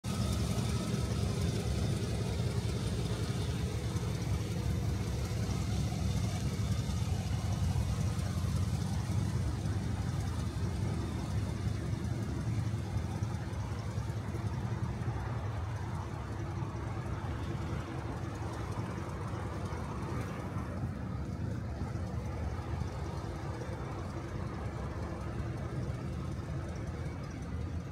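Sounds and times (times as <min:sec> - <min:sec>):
car engine idling: 0:00.0 - 0:27.9.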